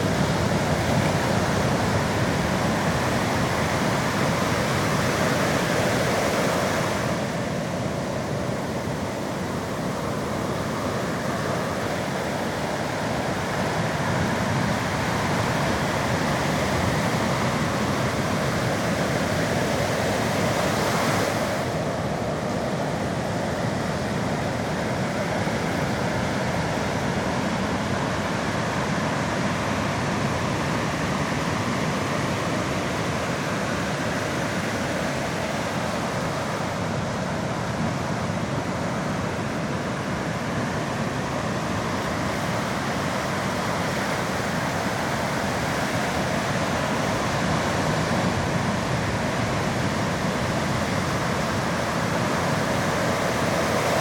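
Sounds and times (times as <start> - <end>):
sea waves rushing on shore: 0.0 - 54.0.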